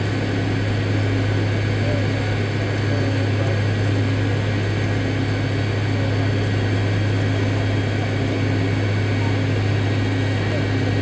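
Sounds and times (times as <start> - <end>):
jet engines low hum: 0.0 - 11.0.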